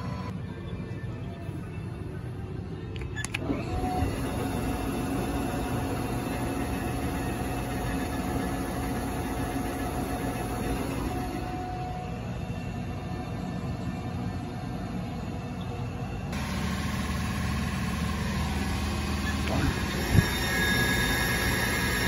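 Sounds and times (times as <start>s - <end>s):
low machine hum: 0.0s - 22.0s
spindle whine: 0.0s - 22.0s.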